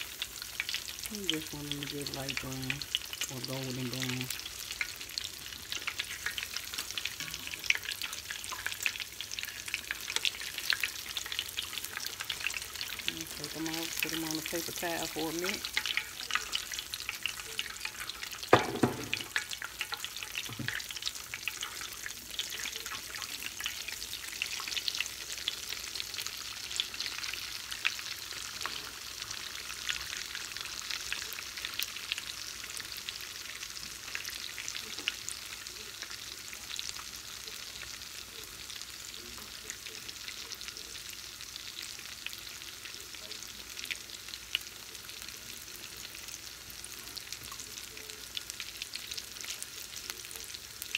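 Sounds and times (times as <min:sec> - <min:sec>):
oil sizzling and popping: 0:00.0 - 0:50.9.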